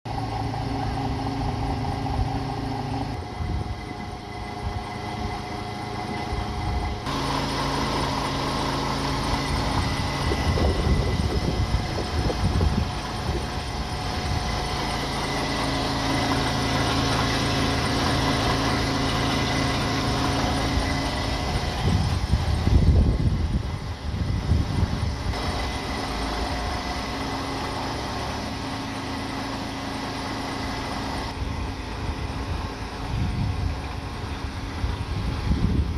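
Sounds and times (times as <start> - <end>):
diesel truck engine idling: 0.1 - 35.9
heavy low rumbles: 0.1 - 35.9.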